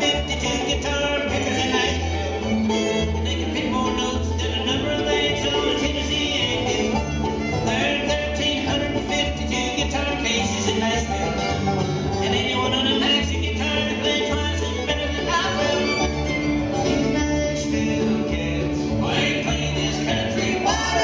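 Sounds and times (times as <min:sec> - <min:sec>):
acoustic guitar rhythm: 0:00.0 - 0:21.0
banjo: 0:00.0 - 0:21.0
fiddle: 0:00.0 - 0:21.0
upright bass: 0:00.0 - 0:21.0.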